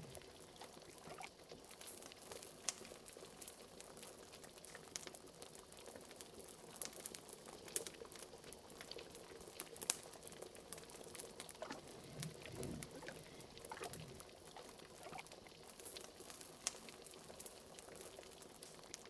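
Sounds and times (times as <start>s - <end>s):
pot of liquid bubbling: 0.0s - 19.0s
wood fire crackling: 0.0s - 19.0s.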